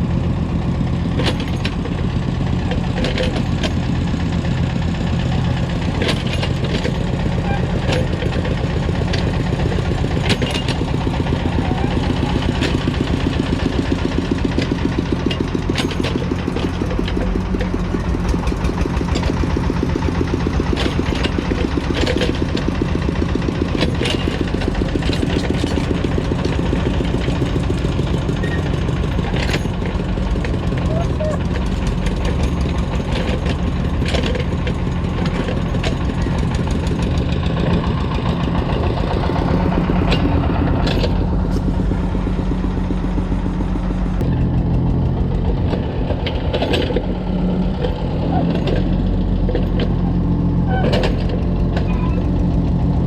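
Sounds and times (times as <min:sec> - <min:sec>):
diesel engines chugging: 0:00.0 - 0:53.0.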